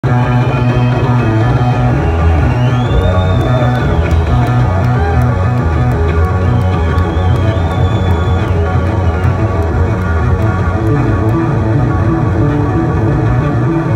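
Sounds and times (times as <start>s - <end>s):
electric bass guitar: 0.0s - 13.9s.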